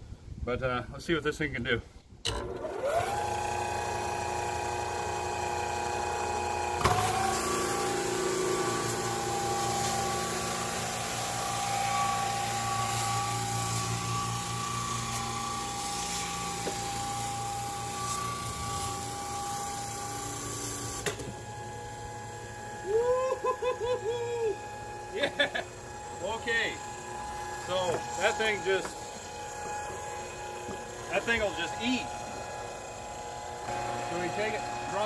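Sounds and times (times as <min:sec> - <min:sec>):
floor sander motor whining: 0:02.3 - 0:35.0
sanding drum grinding wood: 0:05.2 - 0:21.0, 0:22.4 - 0:35.0.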